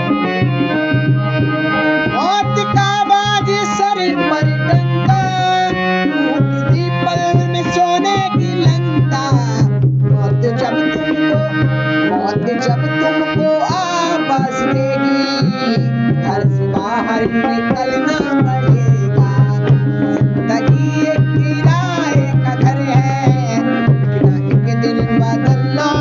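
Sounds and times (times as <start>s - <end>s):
hand drums beating: 0.0s - 26.0s
harmonium chords: 0.0s - 26.0s
person singing: 0.0s - 26.0s.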